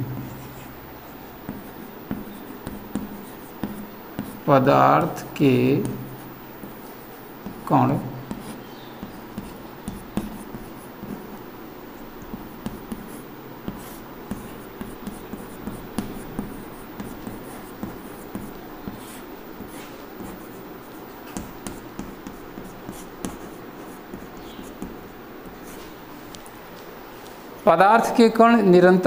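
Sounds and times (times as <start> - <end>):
chalk writing on chalkboard: 1.4 - 11.4, 12.1 - 26.0.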